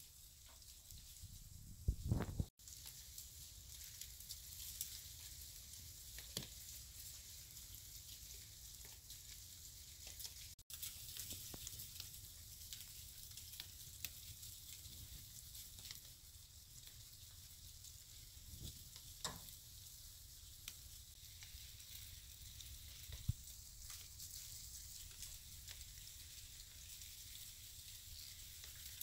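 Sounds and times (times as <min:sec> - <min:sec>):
light hiss: 0:00.0 - 0:29.0
small ticks and crackles: 0:00.0 - 0:29.0.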